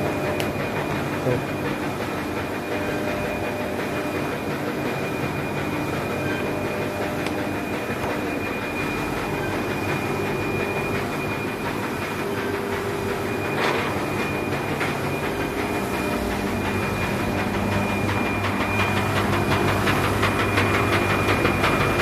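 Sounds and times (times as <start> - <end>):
machine drone: 0.0 - 22.0.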